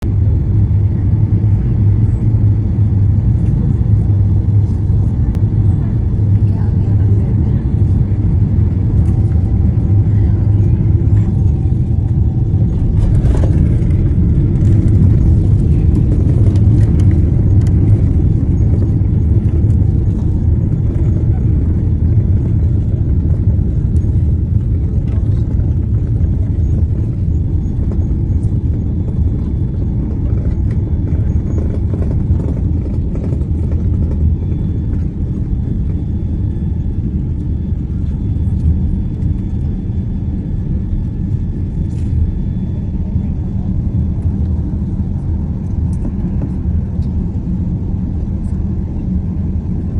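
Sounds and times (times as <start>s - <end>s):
airliner cabin low rumble: 0.0s - 49.9s.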